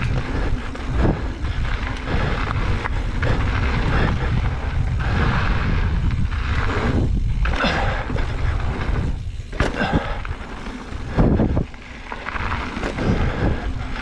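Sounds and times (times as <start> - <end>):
bike knocks and rattles: 0.0 - 14.0
bike tyre noise: 0.0 - 14.0
wind buffeting microphone: 0.0 - 14.0.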